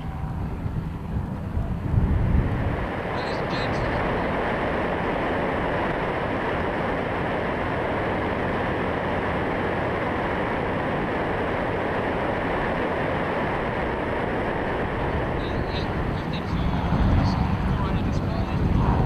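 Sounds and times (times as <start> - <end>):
aircraft engine noise: 0.0 - 19.0
wind buffeting microphone: 0.0 - 19.0
wind rushing: 0.0 - 19.0.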